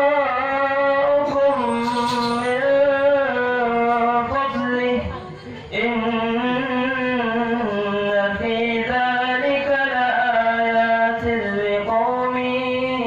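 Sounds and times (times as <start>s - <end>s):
person reciting melodically: 0.0s - 13.0s.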